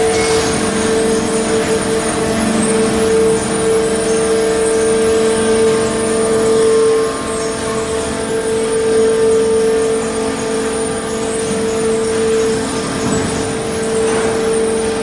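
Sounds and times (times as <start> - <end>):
shredder machine hum and whine: 0.0 - 15.0.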